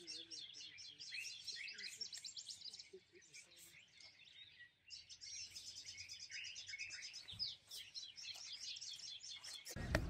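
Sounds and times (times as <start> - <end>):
birds chirping and whistling: 0.0 - 10.0.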